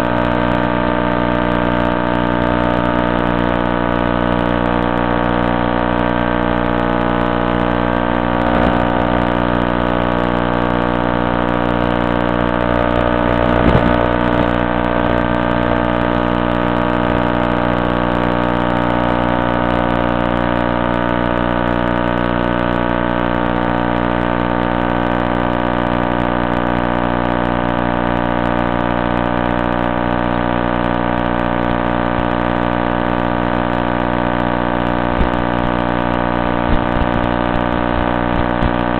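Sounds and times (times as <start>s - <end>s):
steady electronic buzz: 0.0s - 25.1s, 32.2s - 38.9s.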